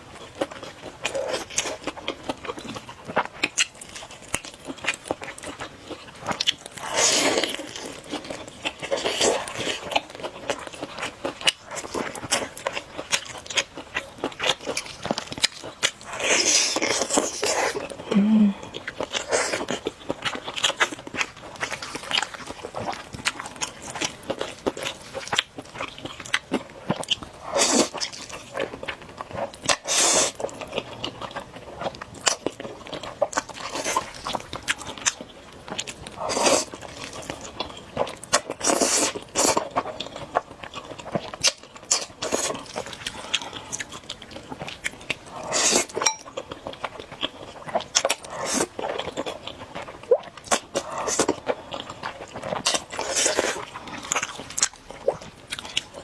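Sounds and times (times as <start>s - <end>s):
chewing with wet mouth clicks: 0.2s - 56.0s.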